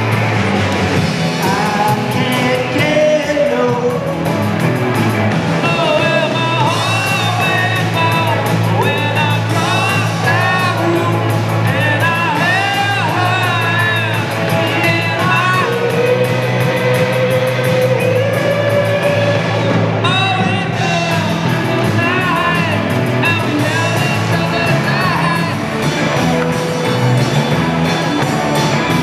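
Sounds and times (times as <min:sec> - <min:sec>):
live rock band: 0:00.0 - 0:29.0
person singing: 0:01.2 - 0:04.6, 0:05.5 - 0:29.0.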